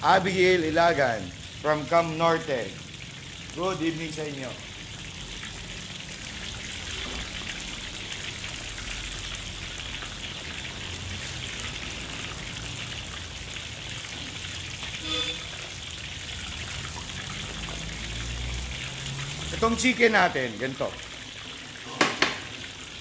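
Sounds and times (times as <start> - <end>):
oil sizzling deep-frying: 0.0 - 23.0.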